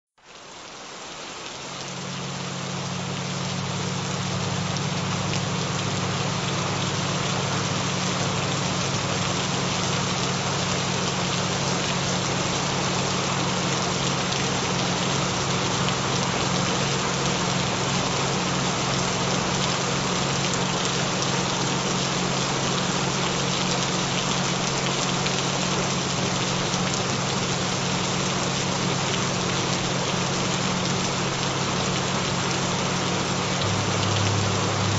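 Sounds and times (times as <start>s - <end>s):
steady rain: 0.2s - 34.9s
low hum tones: 1.8s - 34.9s.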